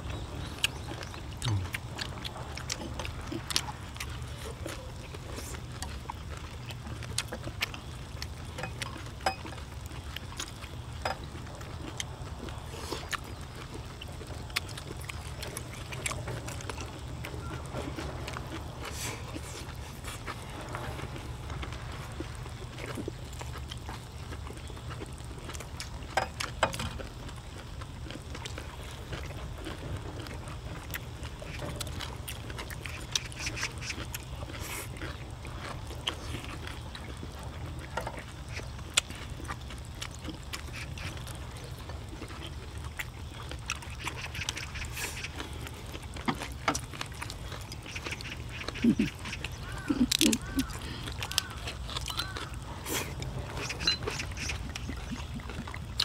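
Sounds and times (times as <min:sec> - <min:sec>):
chewing and lip-smacking: 0:00.0 - 0:56.0.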